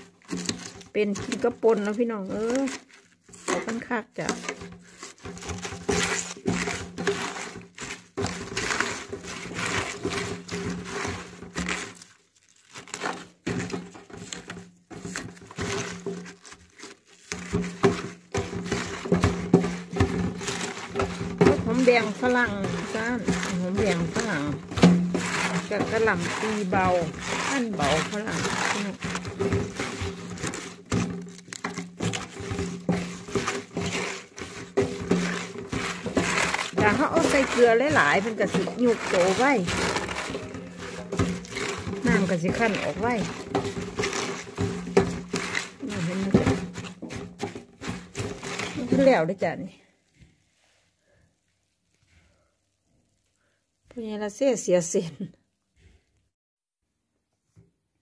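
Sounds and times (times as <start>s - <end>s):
wet crunching of cabbage leaves: 0.0s - 49.3s.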